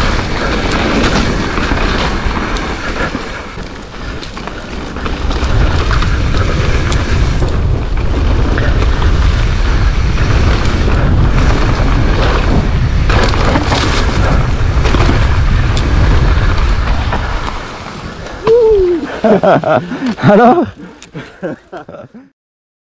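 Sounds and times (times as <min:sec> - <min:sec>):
wind buffeting microphone: 0:00.0 - 0:21.5
bike clicks and rattle: 0:00.0 - 0:22.1
bike tyre noise on dirt: 0:00.0 - 0:22.2.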